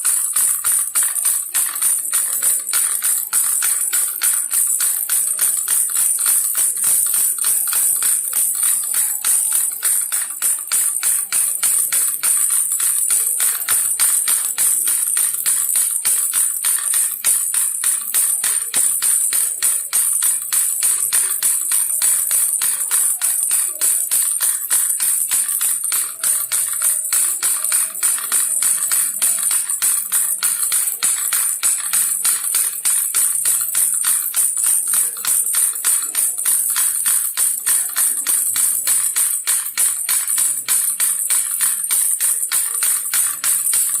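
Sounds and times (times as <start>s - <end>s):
baby rattle shaken fast: 0.0s - 44.0s.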